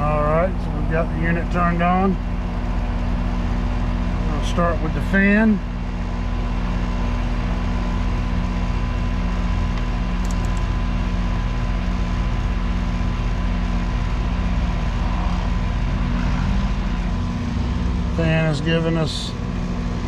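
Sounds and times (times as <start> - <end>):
air conditioner unit humming: 0.0 - 20.0.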